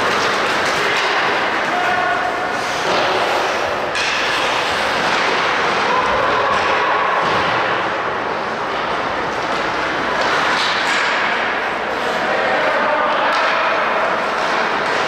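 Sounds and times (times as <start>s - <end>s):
skates on ice: 0.0s - 7.7s, 8.5s - 15.0s
crowd noise: 0.0s - 15.0s
hockey sticks: 0.0s - 15.0s.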